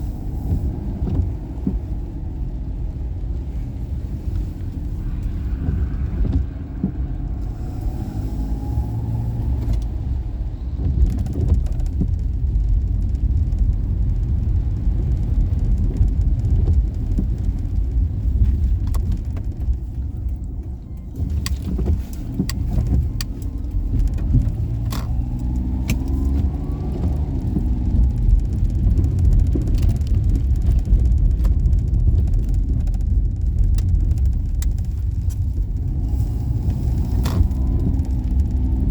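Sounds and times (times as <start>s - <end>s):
car engine rumble while driving: 0.0s - 38.9s.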